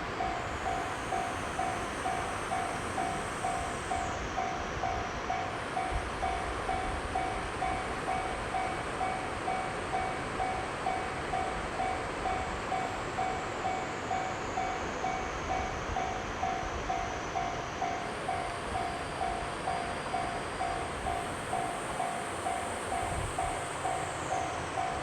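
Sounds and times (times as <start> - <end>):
train running through: 0.0 - 25.0.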